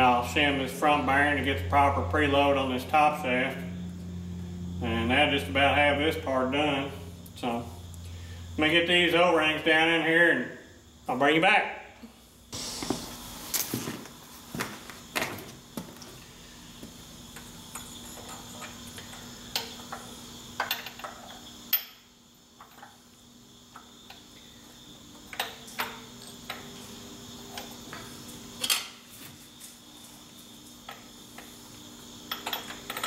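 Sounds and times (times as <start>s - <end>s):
faint hum with high tone: 0.0s - 33.0s.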